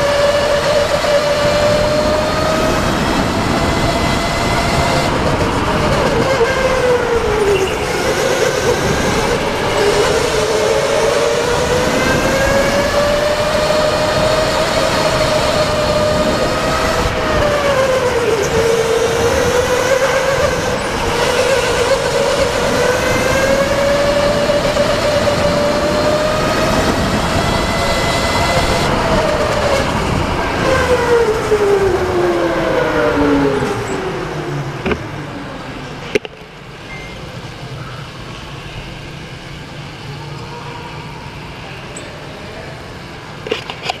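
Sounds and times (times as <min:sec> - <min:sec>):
go-kart motor whining: 0:00.0 - 0:44.0.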